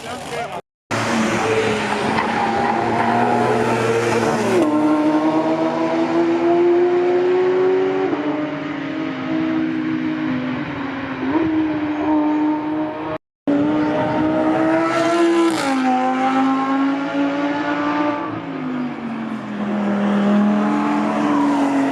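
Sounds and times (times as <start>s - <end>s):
race car engines at high revs: 0.9s - 21.9s.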